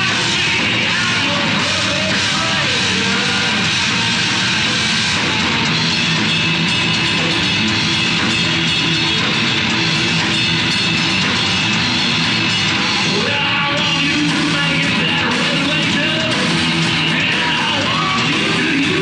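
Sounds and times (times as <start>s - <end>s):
live heavy metal band: 0.0s - 19.0s.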